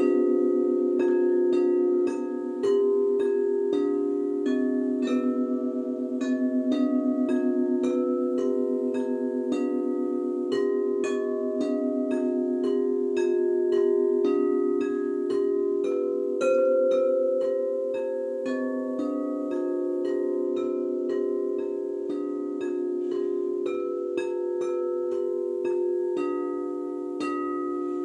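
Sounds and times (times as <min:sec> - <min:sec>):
crystal singing bowls ringing: 0:00.0 - 0:28.0.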